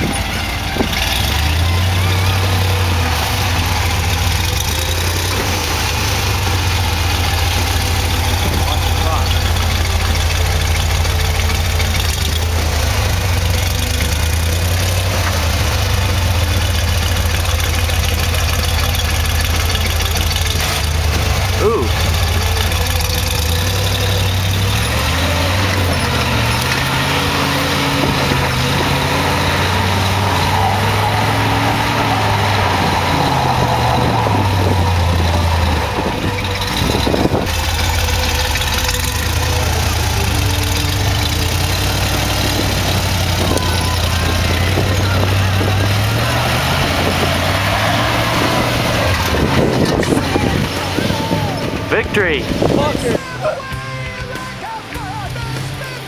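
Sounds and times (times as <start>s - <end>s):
jeep engine revving and straining: 0.0s - 56.0s.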